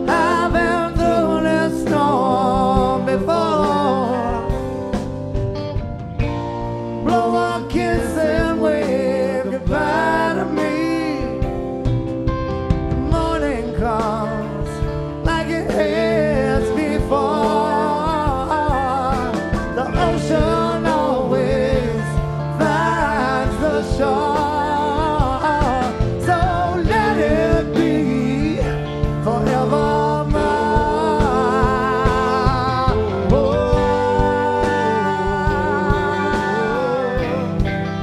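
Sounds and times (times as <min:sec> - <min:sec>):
live rock band playing: 0:00.0 - 0:38.0
melodic lead line: 0:00.0 - 0:38.0.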